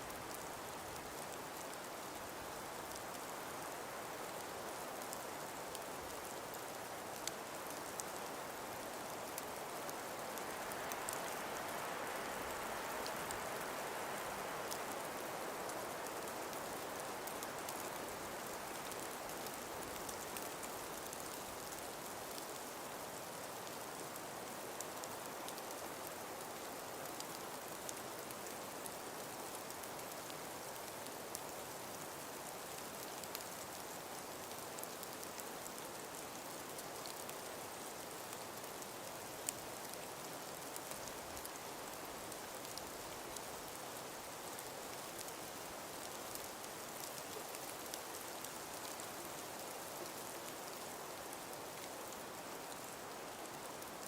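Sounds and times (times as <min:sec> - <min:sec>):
wind hiss of breeze: 0:00.0 - 0:54.0
faint ticks: 0:00.1 - 0:54.0.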